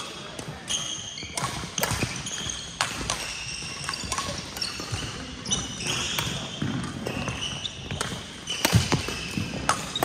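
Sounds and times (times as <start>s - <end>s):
rackets striking shuttlecock: 0.0s - 10.0s
shoes squeaking on court floor: 0.0s - 10.0s.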